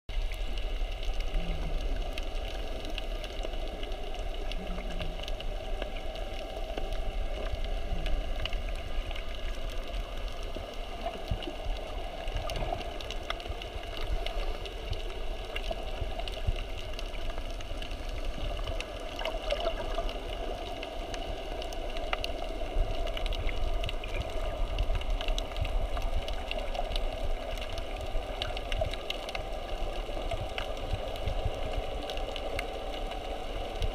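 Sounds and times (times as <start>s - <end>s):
faint clicks: 0.1s - 33.9s
muffled underwater water noise: 0.1s - 33.9s.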